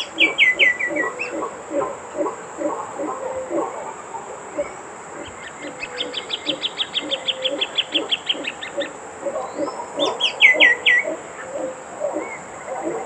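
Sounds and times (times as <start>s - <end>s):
soft repeated bird call: 0.0s - 3.7s, 4.5s - 13.0s
bird chattering song: 0.0s - 3.8s, 4.5s - 13.0s.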